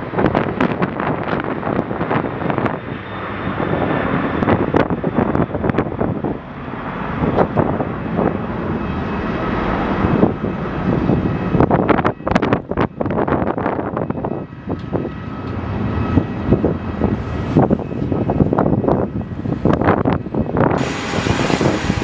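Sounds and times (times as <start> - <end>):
airliner engines running: 0.0 - 22.0
wind buffeting microphone: 0.0 - 22.0.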